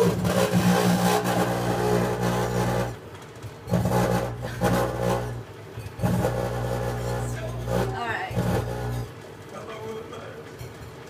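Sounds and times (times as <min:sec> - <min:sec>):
electrical arcing buzz: 0:00.0 - 0:09.3
microwave oven hum: 0:00.0 - 0:11.0.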